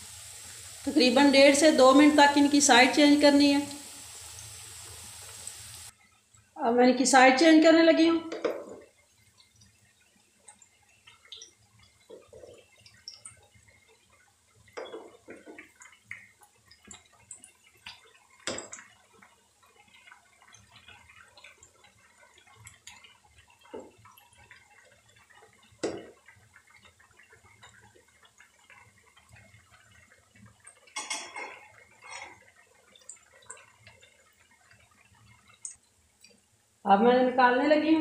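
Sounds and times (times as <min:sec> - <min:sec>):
fritters sizzling in hot oil: 0:00.0 - 0:06.6, 0:08.5 - 0:36.8.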